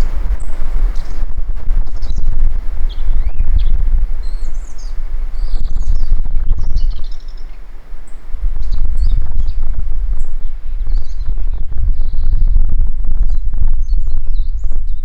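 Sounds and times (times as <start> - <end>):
bird twittering song: 0.0 - 15.0
wind buffeting microphone: 0.0 - 15.0.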